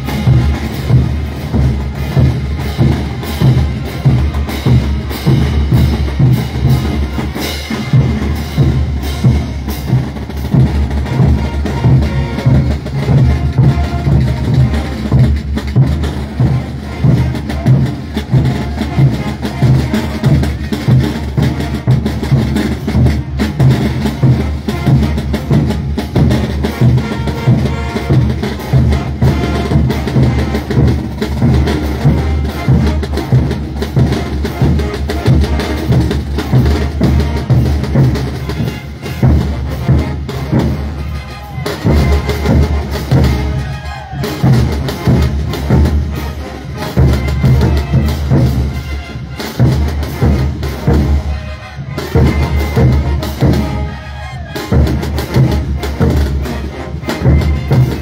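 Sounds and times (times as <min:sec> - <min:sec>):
snare drums: 0:00.0 - 0:58.0.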